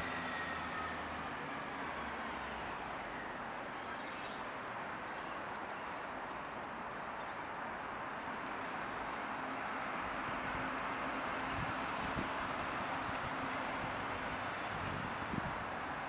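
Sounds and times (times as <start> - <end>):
distant road traffic: 0.0 - 16.0.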